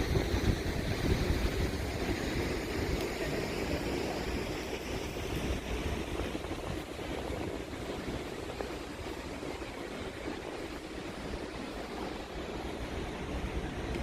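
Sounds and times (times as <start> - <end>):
busy city street noise: 0.0 - 14.0
wind buffeting microphone: 0.0 - 14.0.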